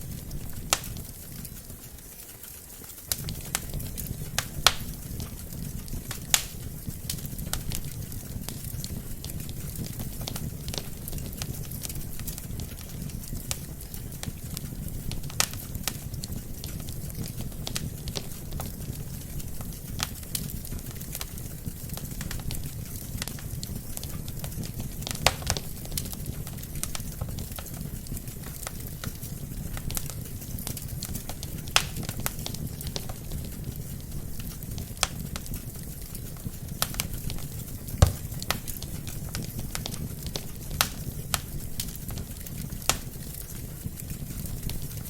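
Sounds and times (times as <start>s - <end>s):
burning logs crackling and popping: 0.0s - 45.0s
fire rumbling: 0.0s - 45.0s.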